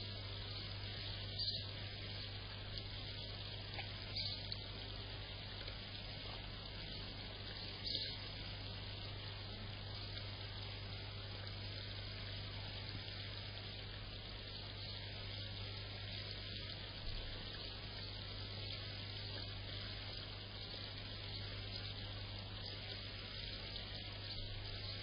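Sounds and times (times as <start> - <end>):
constant low hum: 0.0 - 25.0.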